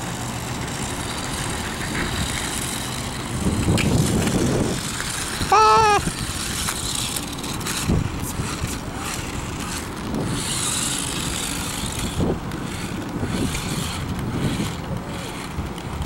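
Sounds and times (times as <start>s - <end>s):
toy car electric motor whirring: 0.0s - 16.0s
wheels rolling on concrete: 0.0s - 16.0s
wind buffeting microphone: 0.0s - 16.0s.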